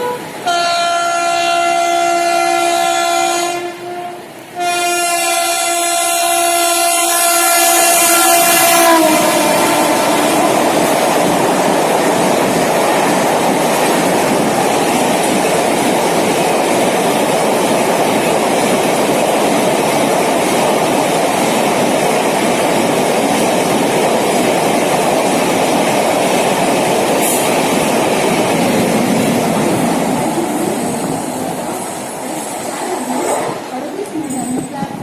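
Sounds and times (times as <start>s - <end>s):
train wheels roaring on rail: 0.0s - 35.0s.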